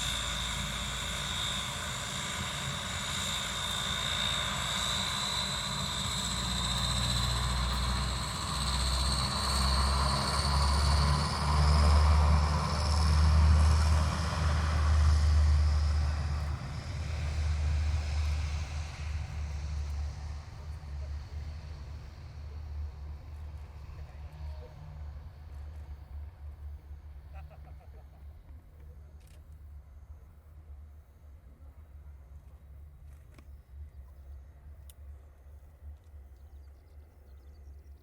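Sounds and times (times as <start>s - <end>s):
deep engine rumble: 0.0s - 38.0s
turboprop engine whine: 0.0s - 38.0s.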